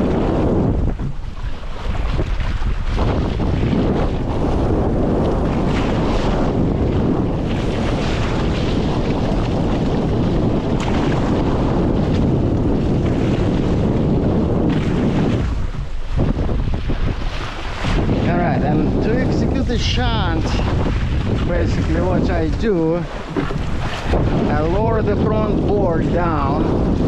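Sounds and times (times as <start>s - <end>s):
water rushing along hull: 0.0s - 27.0s
wind buffeting microphone: 0.0s - 27.0s.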